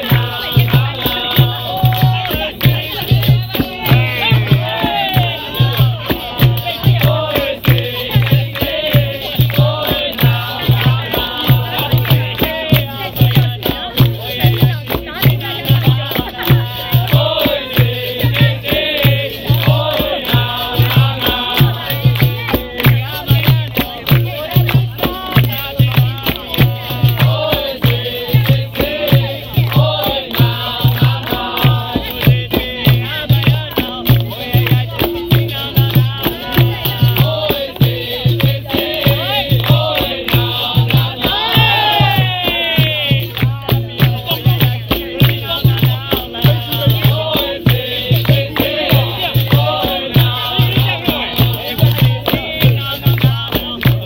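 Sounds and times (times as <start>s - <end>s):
shaken and struck percussion: 0.0s - 54.0s
steady drum beat: 0.0s - 54.0s
voices singing a chant: 0.0s - 54.0s.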